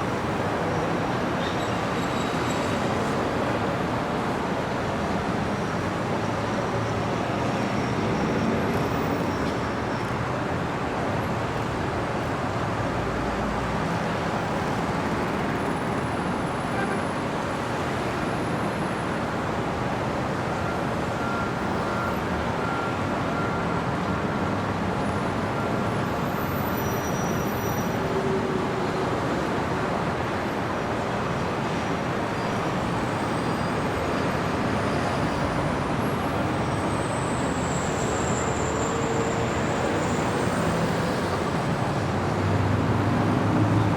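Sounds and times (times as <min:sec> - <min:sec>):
passing road traffic: 0:00.0 - 0:43.9.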